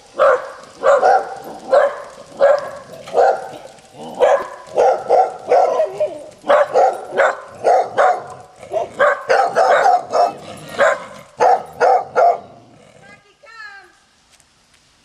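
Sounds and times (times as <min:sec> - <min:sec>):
dogs barking: 0:00.1 - 0:12.7.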